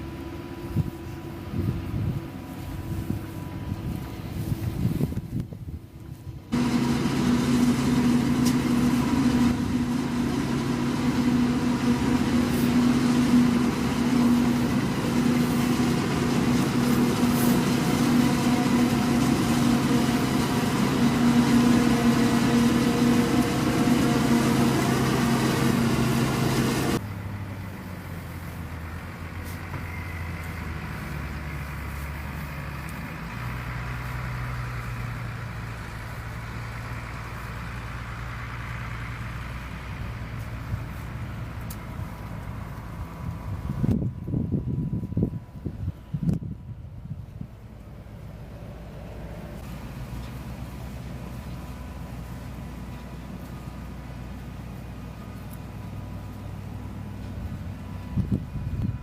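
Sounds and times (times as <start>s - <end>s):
heavy farm machinery humming: 0.0s - 59.0s
low engine sound changing pitch: 0.0s - 59.0s.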